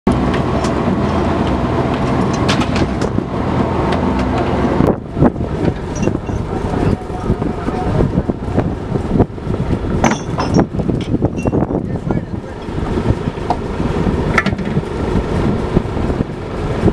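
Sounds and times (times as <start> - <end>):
deck winch droning: 0.1 - 16.9
sea noise: 0.1 - 16.9
wind: 0.1 - 16.9.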